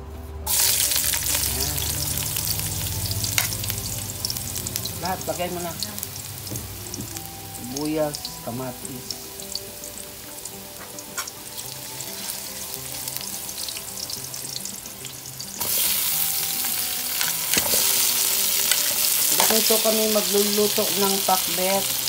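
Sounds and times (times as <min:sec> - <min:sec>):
onions and tomatoes sizzling: 0:00.4 - 0:22.0
ginger sizzling in hot oil: 0:00.5 - 0:22.0
oil popping and crackling: 0:00.5 - 0:22.0.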